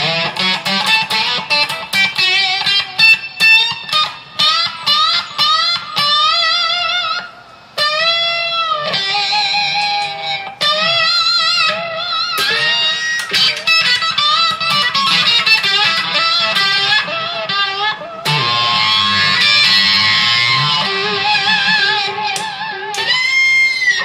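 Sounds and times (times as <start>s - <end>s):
electric guitar solo: 0.0s - 24.0s.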